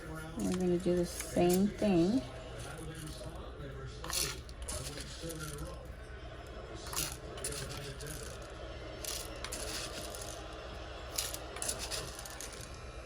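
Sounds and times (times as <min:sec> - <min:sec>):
peppercorns rattling in grinder: 0:00.2 - 0:03.2, 0:04.0 - 0:05.8, 0:06.8 - 0:12.8.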